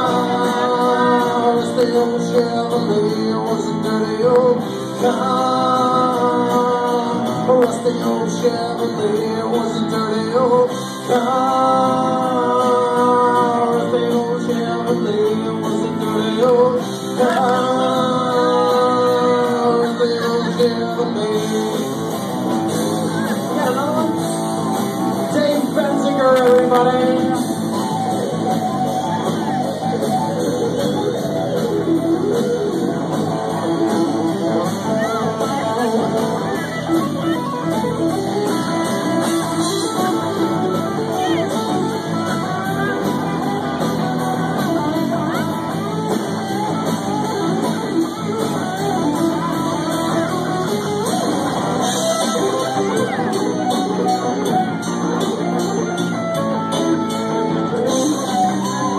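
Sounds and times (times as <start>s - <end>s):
lead electric guitar: 0.0s - 58.9s
live rock band playing: 0.0s - 58.9s.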